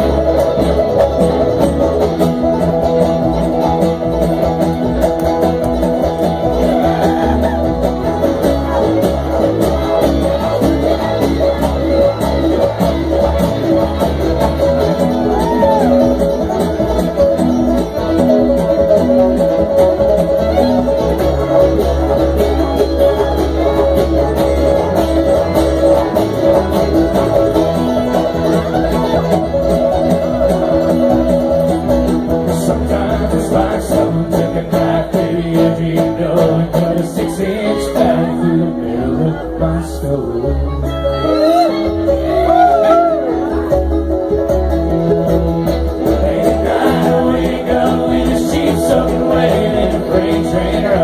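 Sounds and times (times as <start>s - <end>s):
banjo picking: 0.0s - 51.0s
guitar picking: 0.0s - 51.0s
upright bass: 0.0s - 51.0s.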